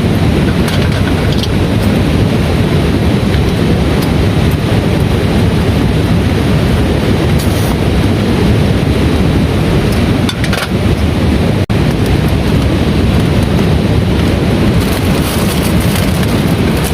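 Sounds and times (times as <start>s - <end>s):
heavy rain pouring: 0.0s - 16.9s
low rumble: 0.0s - 16.9s.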